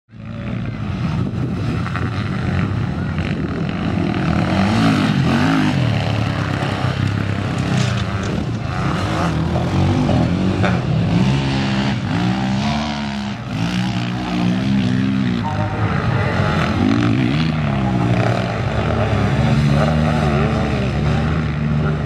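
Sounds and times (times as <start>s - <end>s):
motorcycle engines revving hard: 0.1s - 22.0s.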